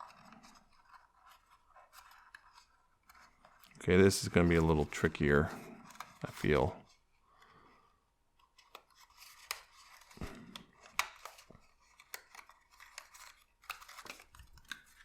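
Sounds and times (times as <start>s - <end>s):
paper clicks: 0.0s - 7.0s, 8.4s - 15.0s
paper rustling: 0.0s - 7.1s, 8.4s - 15.0s.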